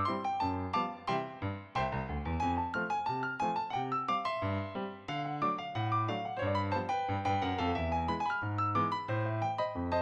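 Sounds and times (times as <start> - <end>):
light piano tune: 0.0 - 10.0.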